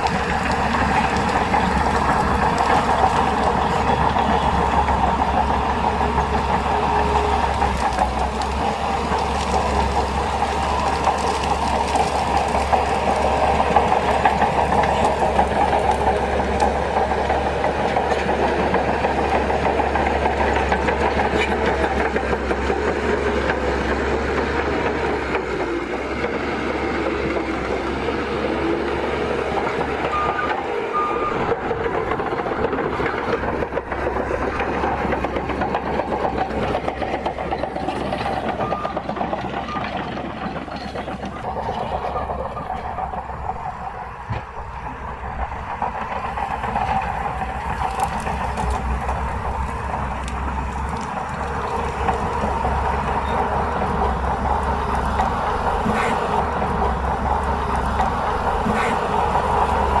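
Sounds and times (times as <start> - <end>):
bulldozer diesel engine: 0.0 - 60.0
steel tracks rattling: 0.0 - 60.0.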